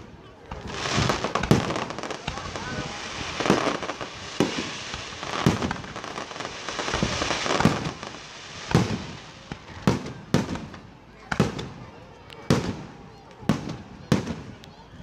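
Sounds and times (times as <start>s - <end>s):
fireworks crackle and fizz: 0.0s - 15.0s.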